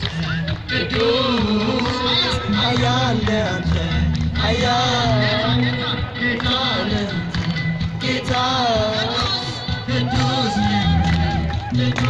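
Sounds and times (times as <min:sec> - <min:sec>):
choir singing a hymn: 0:00.8 - 0:03.6, 0:04.5 - 0:07.3, 0:08.0 - 0:12.0.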